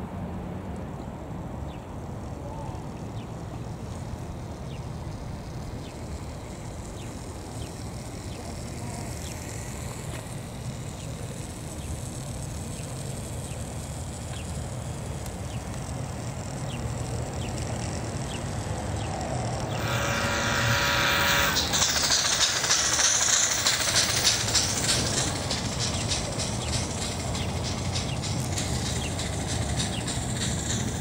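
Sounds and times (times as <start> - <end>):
steady low rumble: 1.0 - 31.0.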